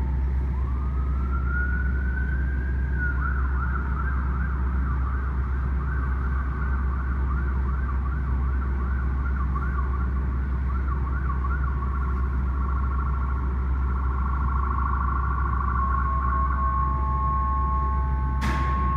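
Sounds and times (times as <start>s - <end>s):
emergency siren wailing: 0.0s - 18.9s
steady low rumble: 0.0s - 18.9s.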